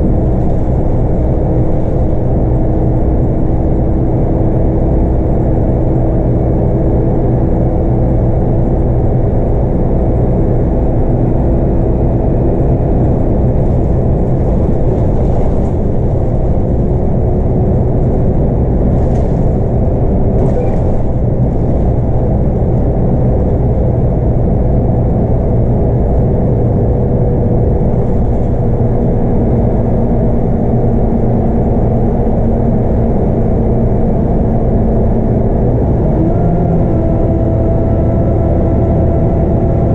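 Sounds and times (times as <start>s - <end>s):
bus diesel engine rumble: 0.0s - 39.9s.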